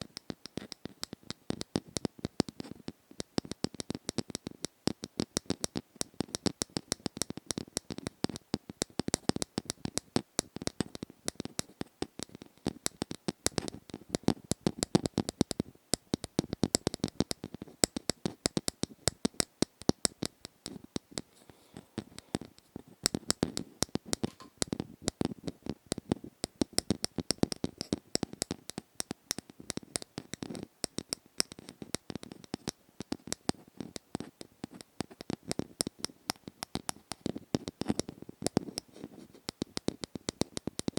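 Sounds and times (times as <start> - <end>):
close-up tapping and scratching: 0.1 - 40.9.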